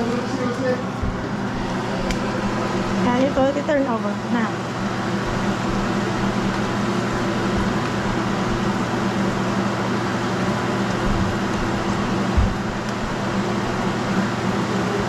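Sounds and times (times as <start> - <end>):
kitchen fan humming: 0.0 - 15.0.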